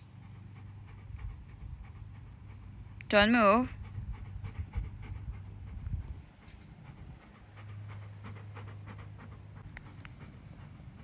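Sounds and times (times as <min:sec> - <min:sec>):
puppy panting: 0:00.0 - 0:11.0.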